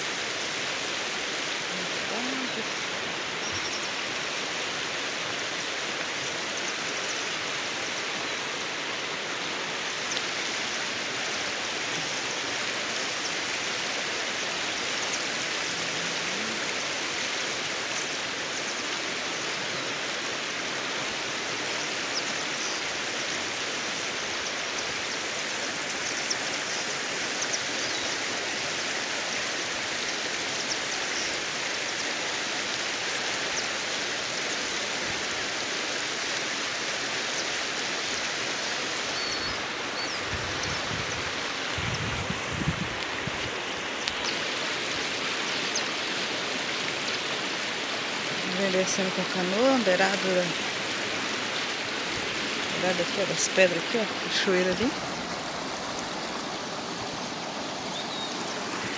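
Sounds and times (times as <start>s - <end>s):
river rapids rushing over rocks: 0.0s - 58.9s.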